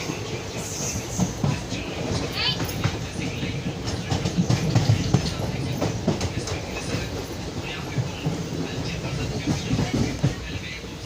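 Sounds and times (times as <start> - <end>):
train rumbling past: 0.0 - 11.0
wheels clattering on rails: 0.0 - 11.0.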